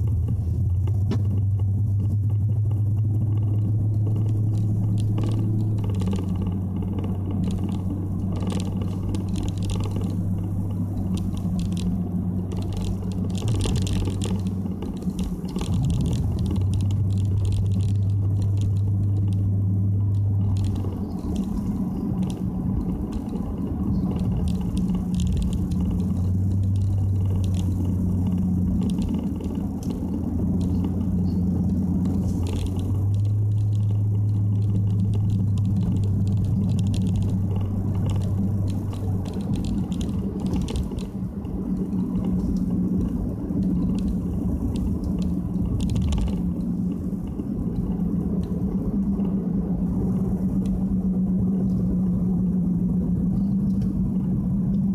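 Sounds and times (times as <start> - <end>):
car engine and exhaust drone: 0.0 - 54.9
light ticks and rattles: 0.0 - 54.9
road noise: 0.0 - 54.9.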